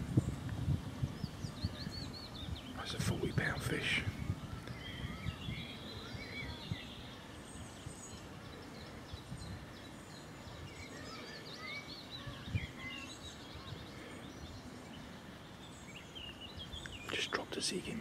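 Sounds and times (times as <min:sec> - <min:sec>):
small birds chirping and singing: 0:00.0 - 0:18.0.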